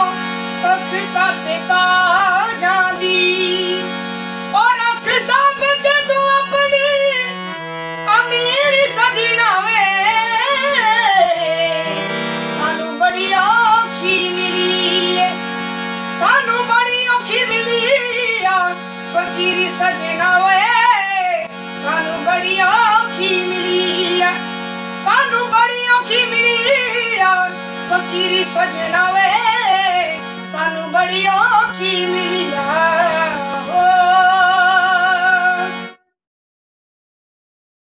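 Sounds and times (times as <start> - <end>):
young man singing: 0.0 - 35.8
harmonium drone and chords: 0.0 - 36.0.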